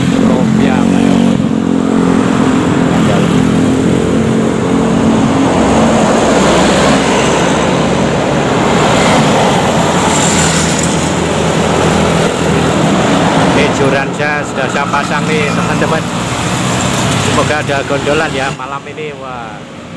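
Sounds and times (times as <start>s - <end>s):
steady engine note: 0.0s - 19.2s
cars and motorcycles passing: 0.0s - 19.9s.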